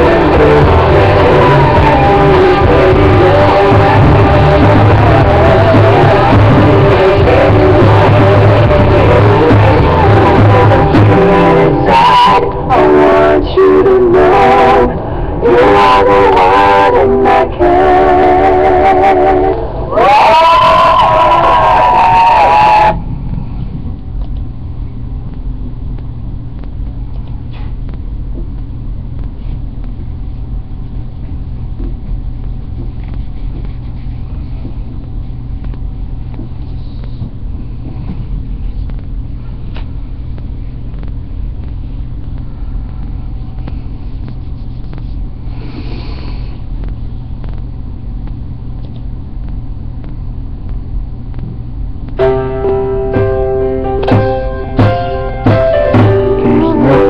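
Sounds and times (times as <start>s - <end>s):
low room rumble: 0.0s - 57.0s.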